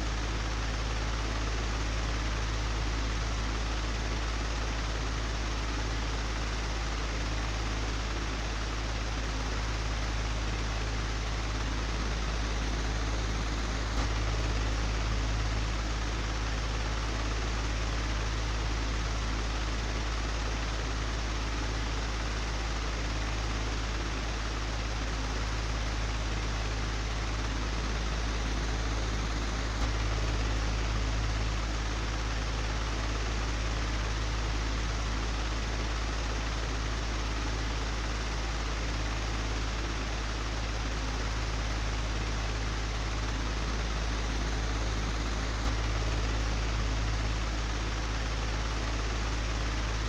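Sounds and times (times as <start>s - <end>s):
electric fan running: 0.0s - 50.0s.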